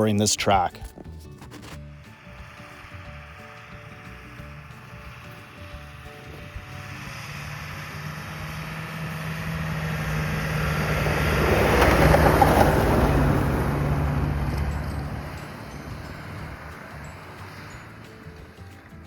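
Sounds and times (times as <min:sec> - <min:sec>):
tyre and road noise: 0:00.0 - 0:19.0
vehicle engine hum: 0:00.0 - 0:19.0.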